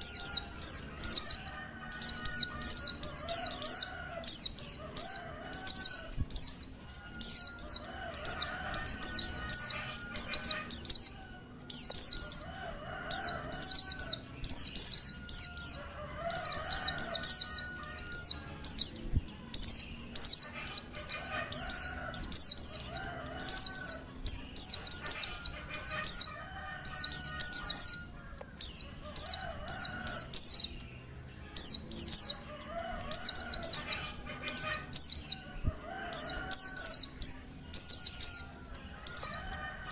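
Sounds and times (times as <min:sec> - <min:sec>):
fainter lower bird calls: 0:00.0 - 0:39.9.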